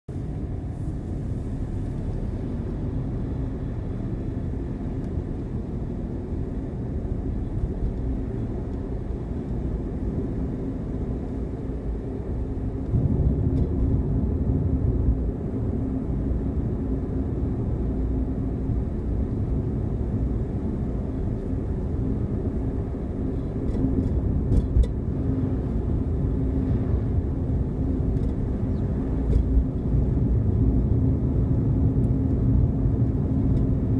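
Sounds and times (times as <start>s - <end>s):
car engine and tyre rumble: 0.1s - 33.9s.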